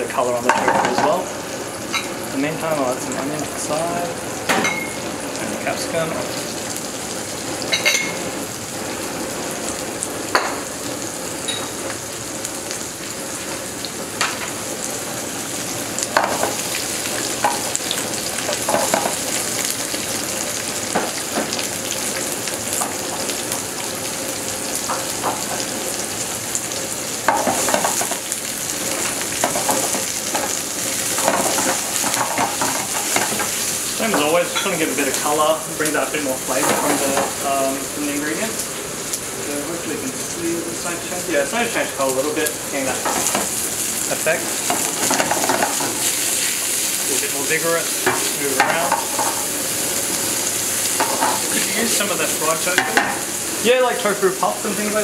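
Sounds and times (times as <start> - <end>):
food sizzling in frying pan: 0.0 - 55.0.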